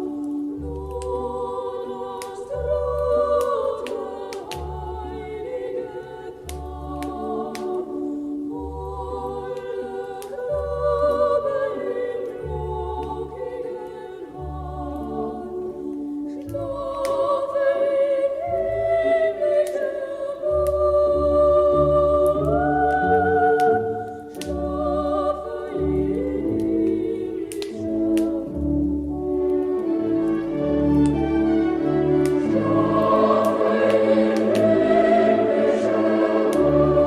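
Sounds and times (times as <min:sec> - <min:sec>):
choir singing: 0:00.0 - 0:37.0
log fire crackling: 0:00.0 - 0:37.0.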